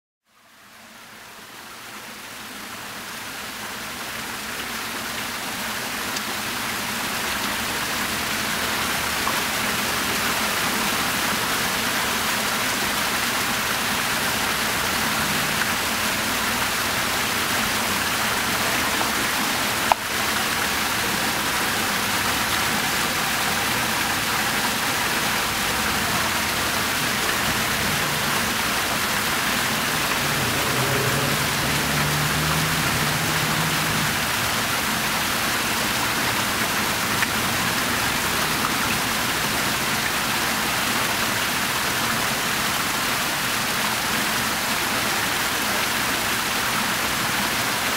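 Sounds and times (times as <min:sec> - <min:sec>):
fountain water splashing: 0:00.3 - 0:47.9.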